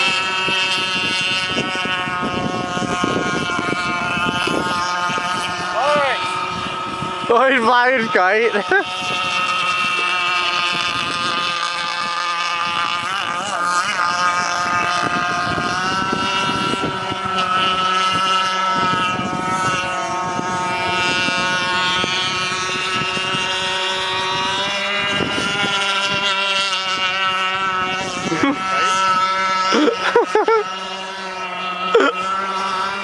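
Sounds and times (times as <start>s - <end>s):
rc boat engine running: 0.0s - 33.0s.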